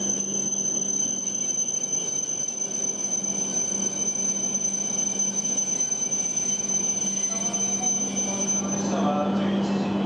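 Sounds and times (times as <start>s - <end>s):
high-pitched whine: 0.0s - 9.9s
train hum and rumble: 0.0s - 10.0s.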